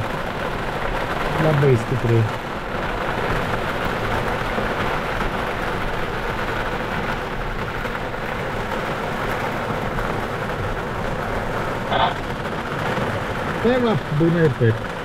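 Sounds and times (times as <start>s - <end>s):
heavy rain on cockpit canopy: 0.0s - 15.0s.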